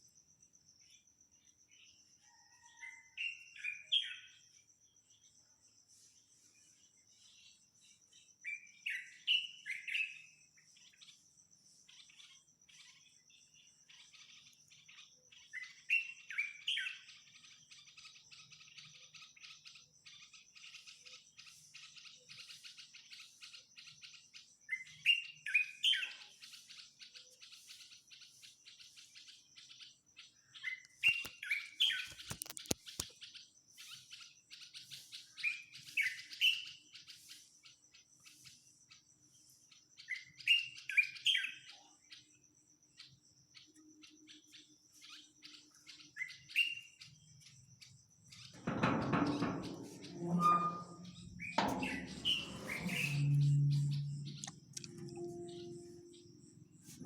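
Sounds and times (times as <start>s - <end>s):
soft bird chirps: 0.8s - 57.0s.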